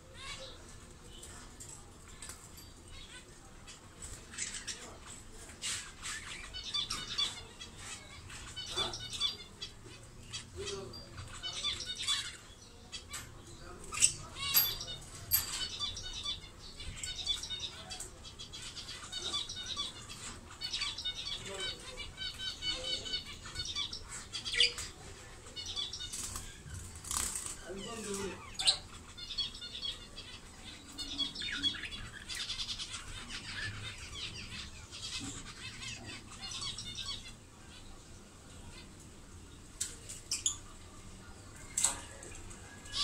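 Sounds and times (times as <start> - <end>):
budgerigars warbling and chattering: 0.0 - 39.1, 40.0 - 43.0.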